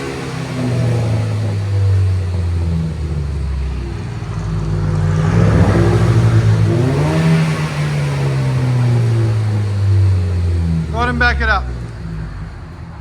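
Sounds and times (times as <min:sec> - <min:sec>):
car exhaust idling and revving: 0:00.0 - 0:13.0.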